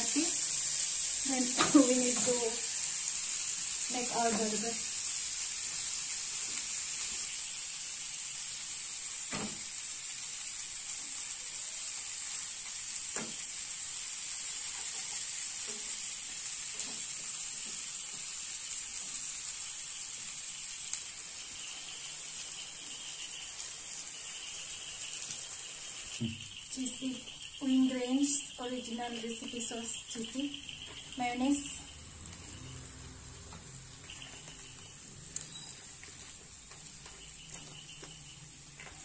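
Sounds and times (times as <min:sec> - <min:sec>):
butter sizzling in a pan: 0:00.0 - 0:39.0.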